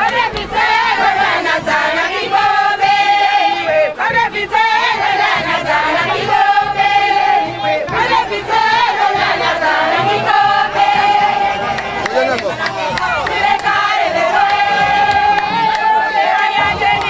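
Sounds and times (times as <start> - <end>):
crowd singing in chorus: 0.0 - 17.0.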